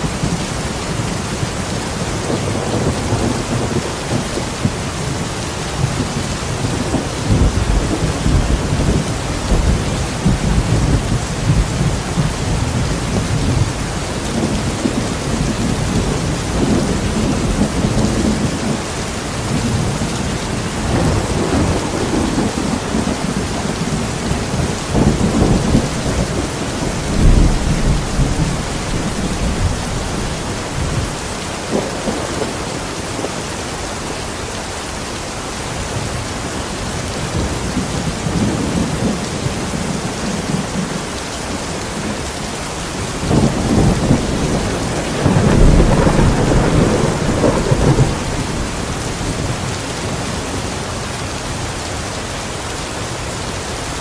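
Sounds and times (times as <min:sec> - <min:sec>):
thunder rumbling: 0:00.0 - 0:33.4, 0:35.8 - 0:50.8
steady rain: 0:00.0 - 0:54.0.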